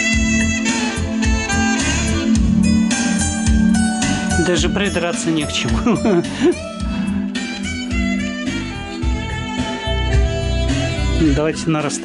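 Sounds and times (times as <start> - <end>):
steady bass line: 0.0 - 11.8.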